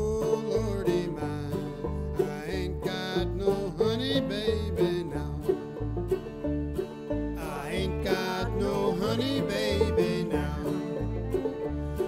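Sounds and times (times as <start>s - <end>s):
guitar with sliding notes: 0.0s - 12.0s
plucked banjo: 0.0s - 12.0s
steady bass line: 0.0s - 12.0s.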